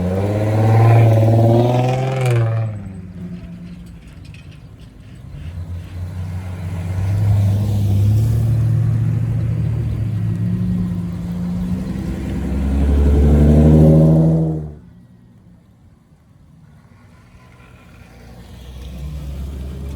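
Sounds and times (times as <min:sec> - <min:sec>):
car accelerating past: 0:00.0 - 0:03.7, 0:05.4 - 0:15.0, 0:16.7 - 0:19.9.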